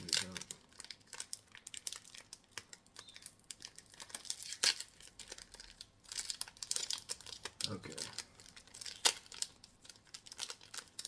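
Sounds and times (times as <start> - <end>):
wrapper crinkling and crackling: 0.0 - 11.0.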